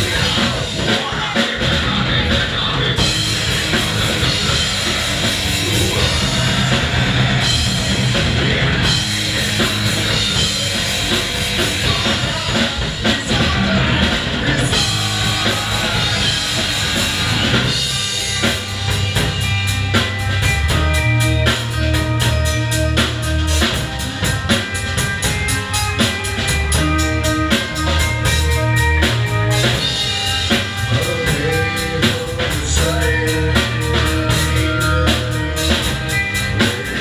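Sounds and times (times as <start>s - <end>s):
fast drum run: 0.0s - 37.0s
live rock band playing: 0.0s - 37.0s.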